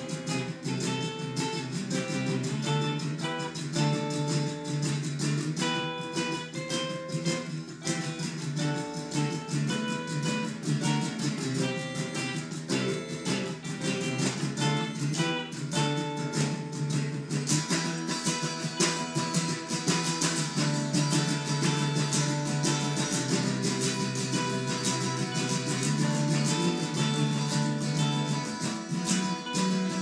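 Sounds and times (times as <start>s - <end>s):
strummed acoustic guitar chords: 0.0s - 30.0s.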